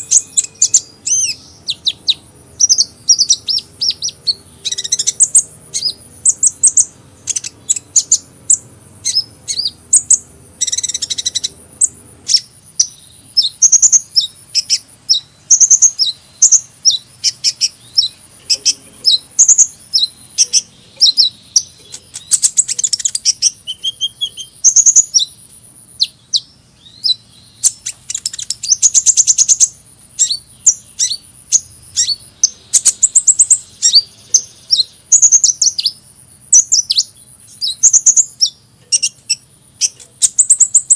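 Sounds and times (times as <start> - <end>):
buzzy bird trills: 0.0 - 40.9
sunbird high chirps: 0.0 - 40.9.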